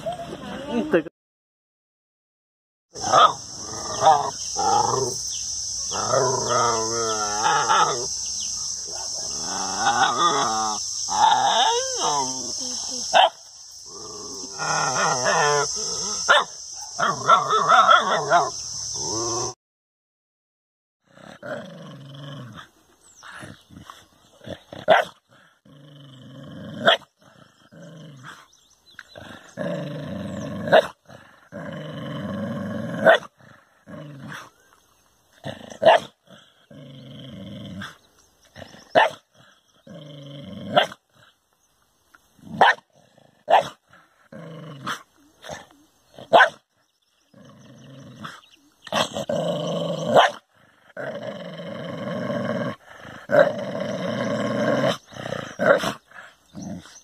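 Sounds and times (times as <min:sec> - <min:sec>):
dog growling: 0:03.0 - 0:05.2, 0:05.9 - 0:08.1, 0:08.9 - 0:12.8, 0:13.9 - 0:16.4, 0:17.0 - 0:19.6, 0:21.0 - 0:34.7, 0:35.4 - 0:41.3, 0:42.4 - 0:46.4, 0:47.2 - 0:57.0.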